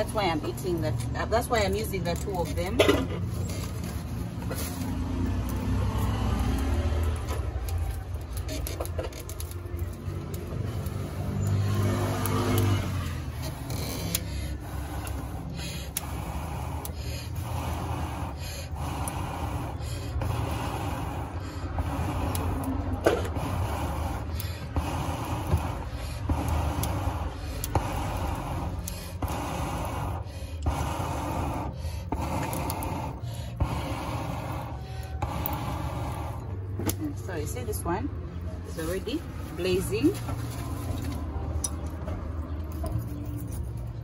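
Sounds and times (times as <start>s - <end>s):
air whooshes onto charcoal: 0.0s - 38.0s.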